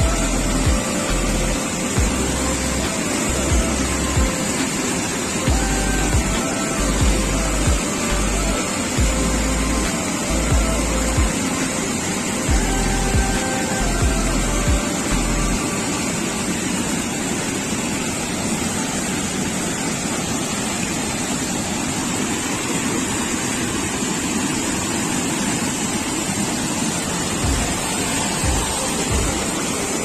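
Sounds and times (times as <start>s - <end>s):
white-water river rushing: 0.0s - 30.0s.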